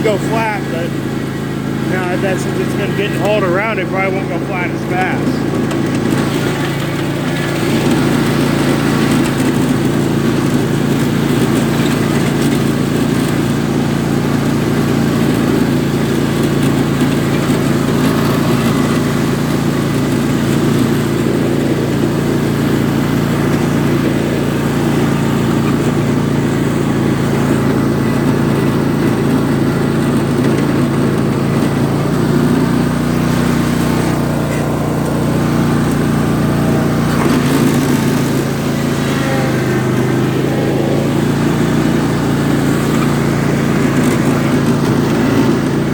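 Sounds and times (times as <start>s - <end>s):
lawn tractor engine running: 0.0s - 45.9s.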